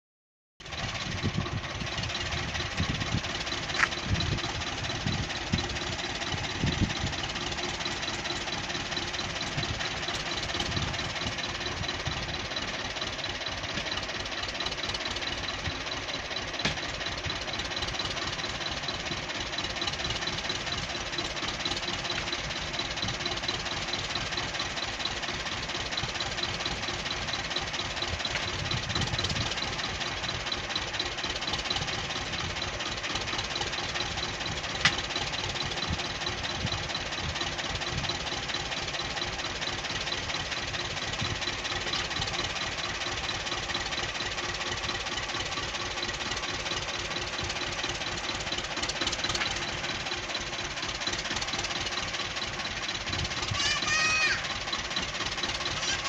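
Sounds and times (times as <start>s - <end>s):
tractor diesel engine idling: 0.6s - 56.0s.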